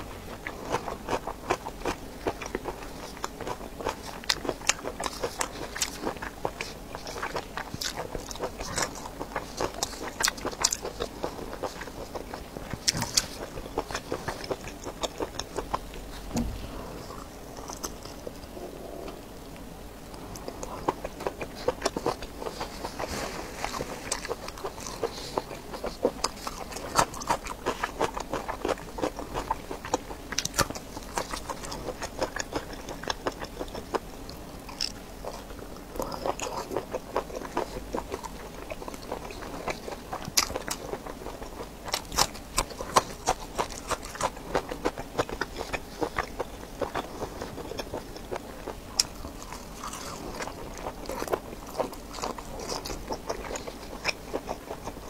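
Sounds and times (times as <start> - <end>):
biting and chewing sausage: 0.0 - 55.0.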